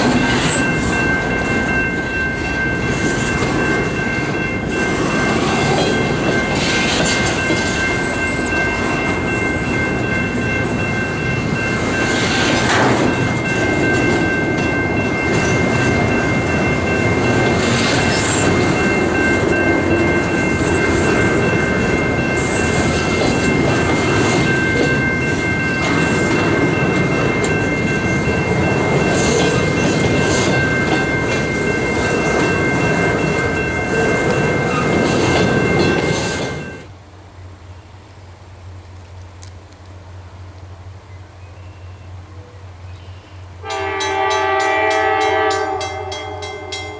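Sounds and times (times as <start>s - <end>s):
freight train rumbling past: 0.0s - 38.8s, 39.9s - 46.9s.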